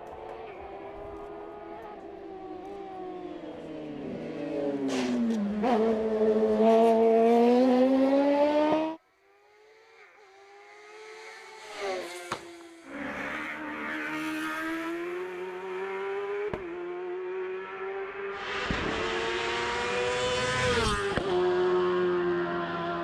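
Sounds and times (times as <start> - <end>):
race car engine revving: 0.1 - 23.0.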